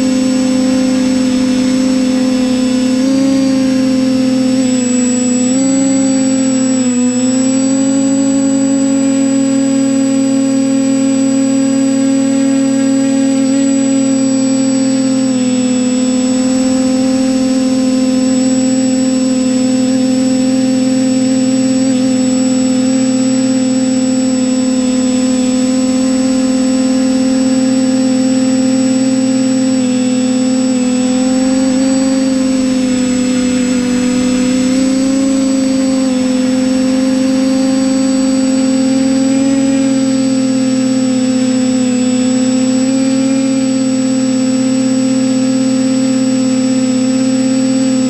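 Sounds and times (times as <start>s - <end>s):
drone propellers buzzing: 0.0s - 48.0s.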